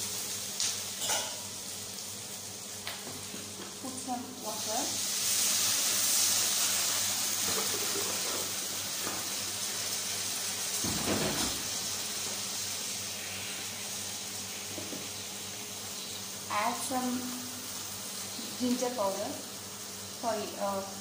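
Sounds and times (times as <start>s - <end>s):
water hissing in hot pan: 0.0s - 21.0s.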